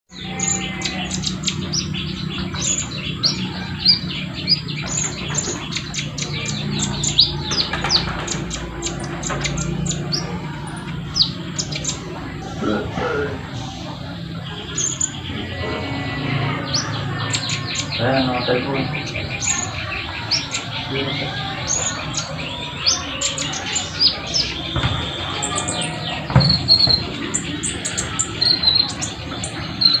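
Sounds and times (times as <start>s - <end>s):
sunbird singing: 0.1s - 30.0s.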